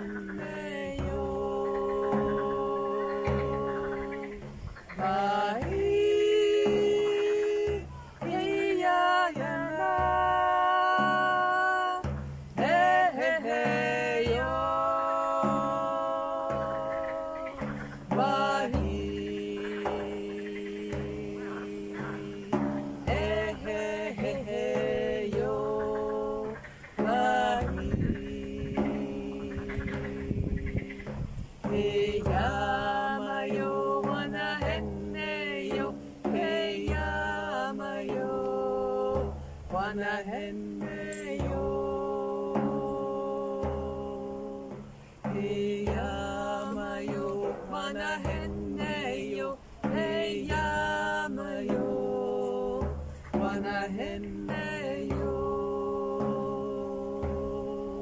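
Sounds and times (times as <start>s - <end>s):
frame drum booming beats: 0.0s - 58.0s
women singing held notes: 0.0s - 58.0s.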